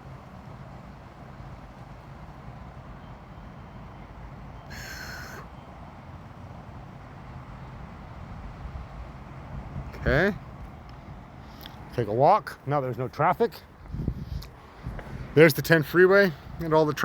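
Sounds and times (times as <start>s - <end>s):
freeway traffic rumble: 0.0s - 17.0s.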